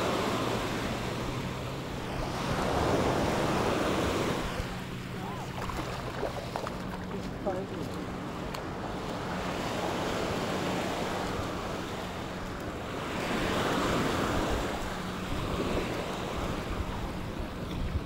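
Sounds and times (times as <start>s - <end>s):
small waves washing on sand: 0.0s - 18.0s
wind rumbling on microphone: 0.0s - 18.0s.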